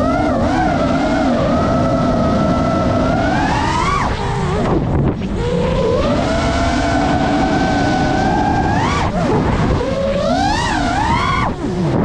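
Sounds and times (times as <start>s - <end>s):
drone propellers whining: 0.0s - 12.0s
wind rushing on microphone: 0.0s - 12.0s.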